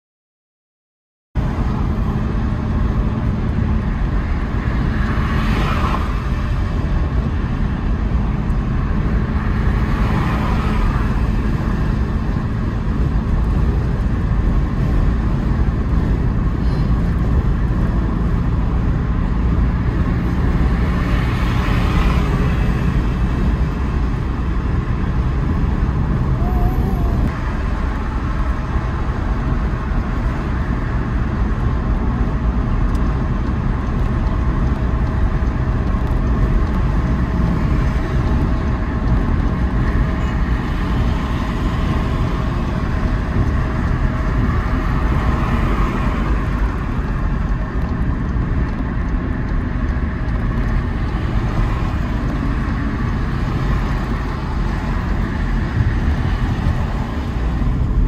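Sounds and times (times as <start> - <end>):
road and tyre rumble: 1.3 - 58.0
car engine noise: 1.4 - 58.0.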